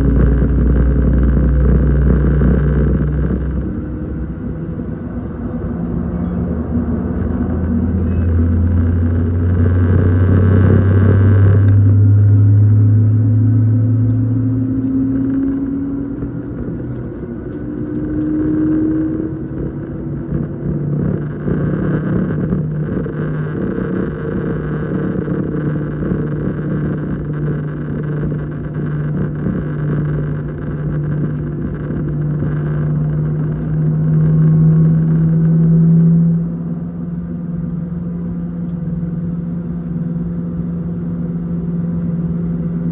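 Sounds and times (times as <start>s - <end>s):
deep hum: 0.0s - 42.9s
jet engines droning: 0.0s - 42.9s
low shifting tones: 0.0s - 42.9s.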